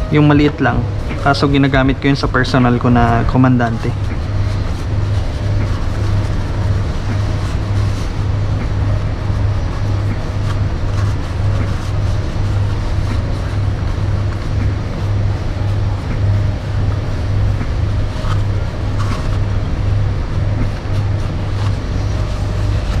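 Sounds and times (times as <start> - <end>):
pulsing low mechanical hum: 0.0 - 23.0.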